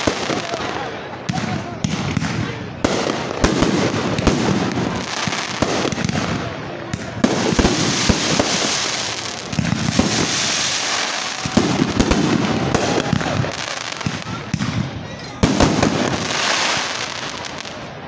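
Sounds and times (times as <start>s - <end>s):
fireworks bursting with sharp bangs: 0.0s - 18.0s
fireworks hissing: 3.0s - 18.0s.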